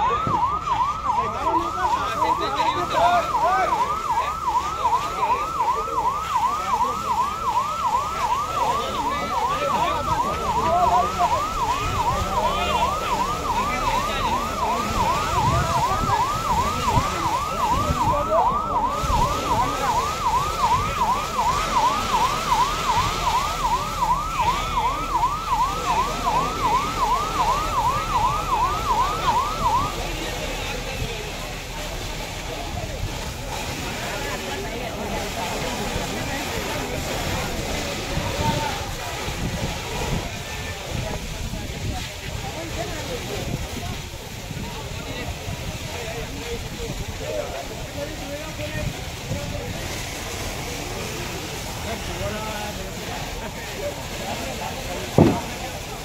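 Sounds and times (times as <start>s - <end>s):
fire engine siren yelping: 0.0s - 56.0s.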